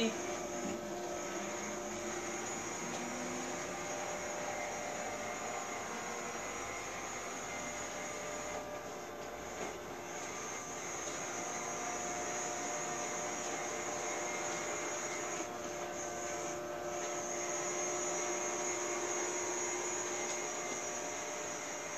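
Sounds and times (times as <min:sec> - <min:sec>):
robot vacuum whirring: 0:00.0 - 0:21.9.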